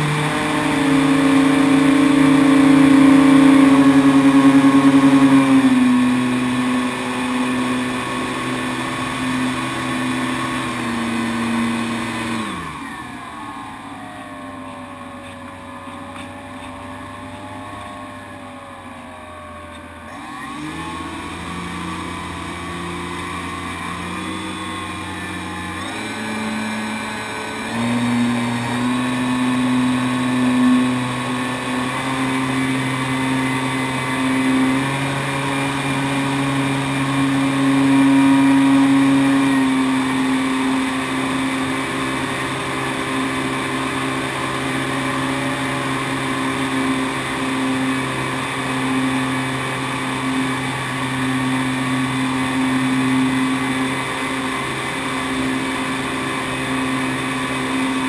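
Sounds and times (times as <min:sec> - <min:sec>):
model plane motor droning: 0:00.0 - 0:58.0.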